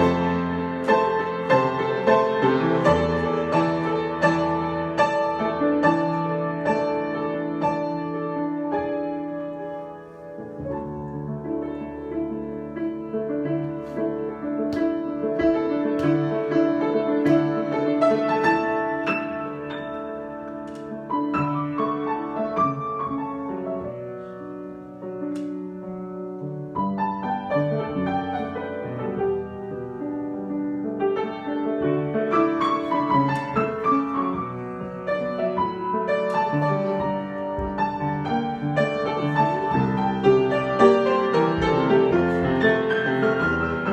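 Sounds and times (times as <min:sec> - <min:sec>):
solo piano: 0:00.0 - 0:43.9.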